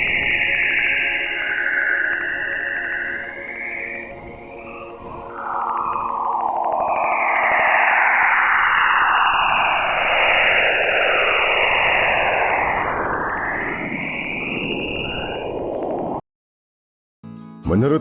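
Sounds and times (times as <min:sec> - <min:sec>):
hiss of space radio waves: 0:00.0 - 0:16.2.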